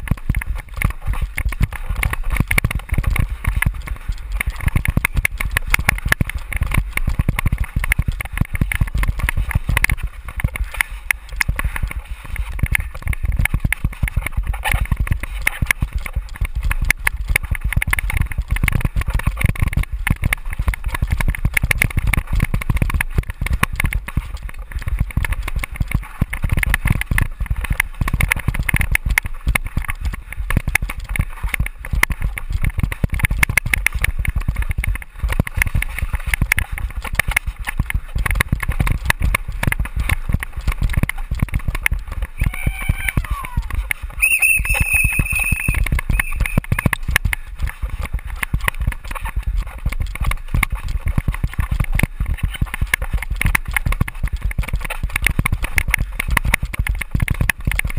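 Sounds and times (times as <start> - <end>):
bike clattering over bumps: 0.0 - 42.4, 45.8 - 57.9
wind rumble on microphone: 0.0 - 57.9.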